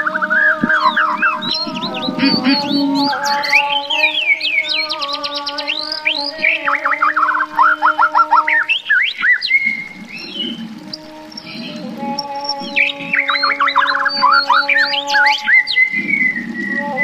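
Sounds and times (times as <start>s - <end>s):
songbird singing trills and whistles: 0.0s - 17.0s
steady held drone tones: 0.0s - 17.0s.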